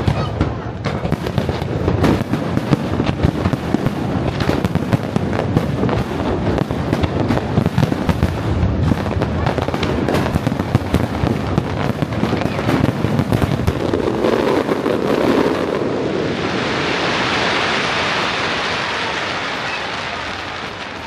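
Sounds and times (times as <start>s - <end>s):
fireworks crackling: 0.0s - 21.0s
fireworks hiss: 0.9s - 21.0s.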